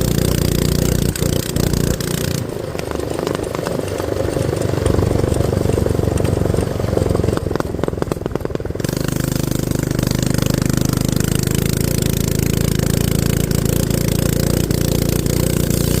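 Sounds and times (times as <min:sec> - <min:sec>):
small gas engine running: 0:00.0 - 0:16.0.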